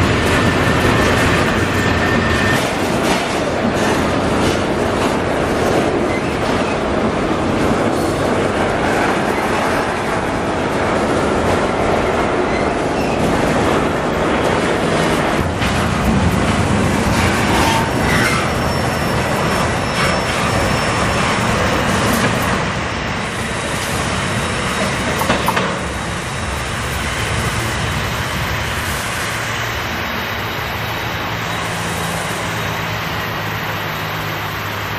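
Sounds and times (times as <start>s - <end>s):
freight train wheels clattering: 0.0s - 34.8s.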